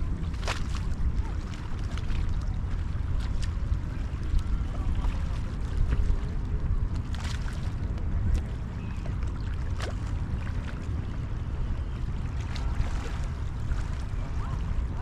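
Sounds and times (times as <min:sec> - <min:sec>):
light water splashes: 0:00.0 - 0:15.0
small waves lapping on sand: 0:00.0 - 0:15.0
wind buffeting microphone: 0:00.0 - 0:15.0.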